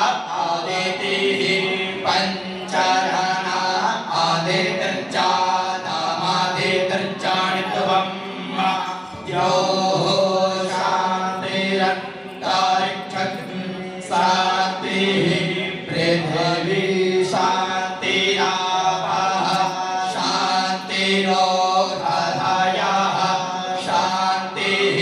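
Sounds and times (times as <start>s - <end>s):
priests chanting: 0.0s - 25.0s.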